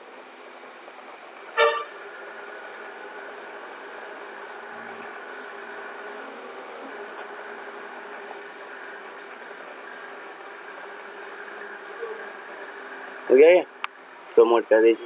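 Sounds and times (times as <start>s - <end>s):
background hiss and hum: 0.0s - 15.0s
rapid high-pitched ticking: 0.4s - 15.0s.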